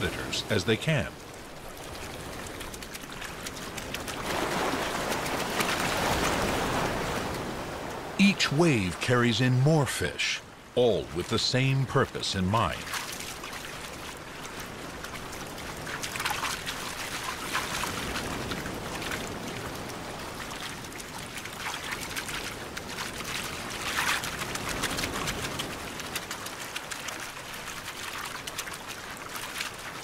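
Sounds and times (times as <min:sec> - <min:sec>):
surf washing over sand: 0:00.0 - 0:30.0
fish splashing in the wash: 0:01.2 - 0:08.1, 0:12.7 - 0:30.0.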